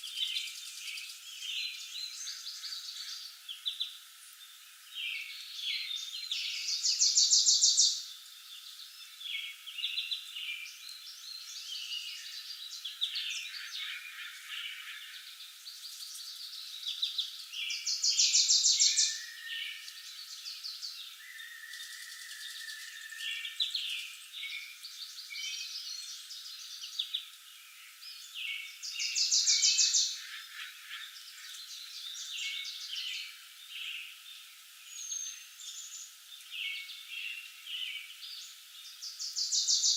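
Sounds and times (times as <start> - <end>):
forest birds singing and chirping: 0.0 - 39.9.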